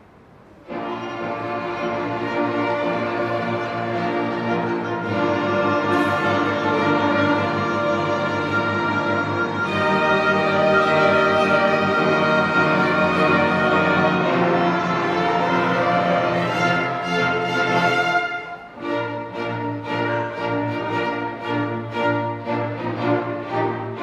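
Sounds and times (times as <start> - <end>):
acoustic ensemble playing a hymn: 0.6 - 24.0.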